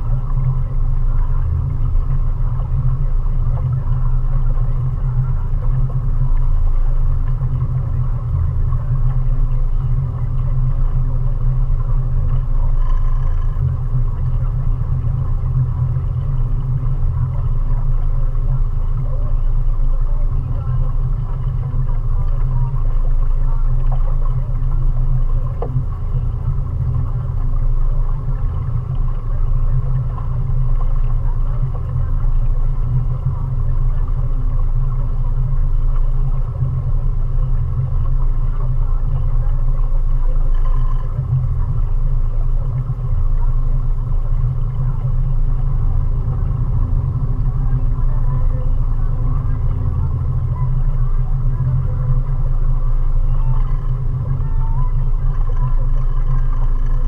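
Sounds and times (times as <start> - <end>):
outboard motor droning: 0.0 - 57.0.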